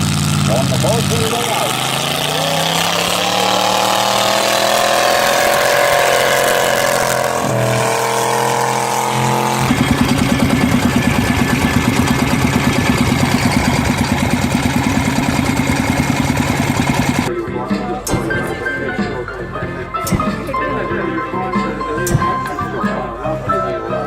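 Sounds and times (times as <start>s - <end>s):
boat engine running: 0.0s - 20.8s.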